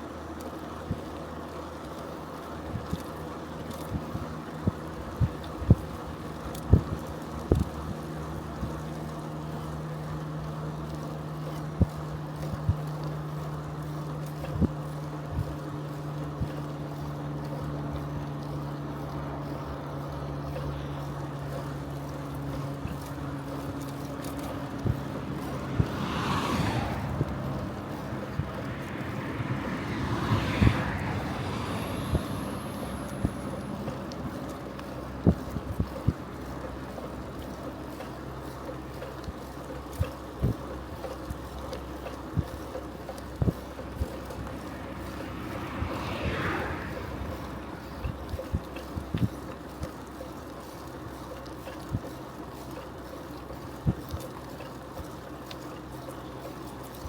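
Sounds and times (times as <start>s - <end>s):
bicycle tyre and wind noise: 0.0s - 57.0s
car passing: 6.0s - 57.0s.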